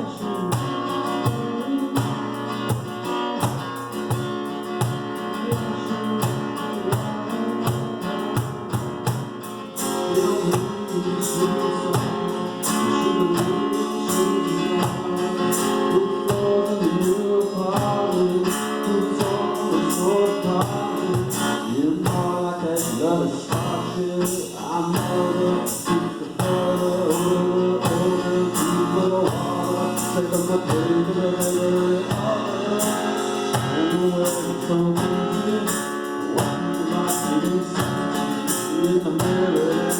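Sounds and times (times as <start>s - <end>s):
person singing: 0.0s - 3.1s, 5.2s - 8.8s, 9.8s - 39.9s
acoustic guitar: 0.0s - 39.9s
percussion beat: 0.0s - 39.9s.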